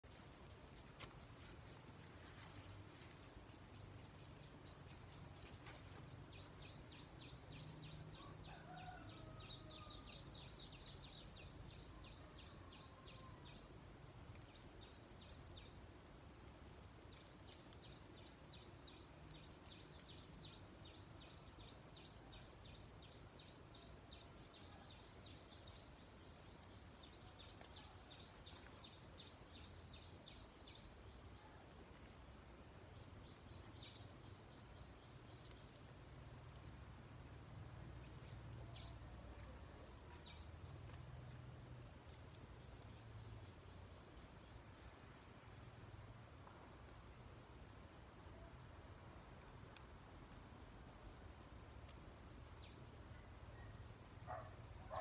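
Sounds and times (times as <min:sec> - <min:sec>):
small bird chirping: 0:00.0 - 0:45.7
faint outdoor ambience: 0:00.0 - 0:55.0.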